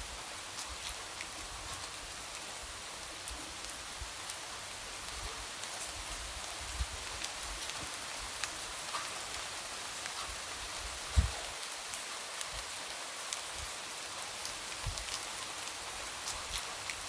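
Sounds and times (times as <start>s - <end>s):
light rain hissing: 0.0s - 17.0s.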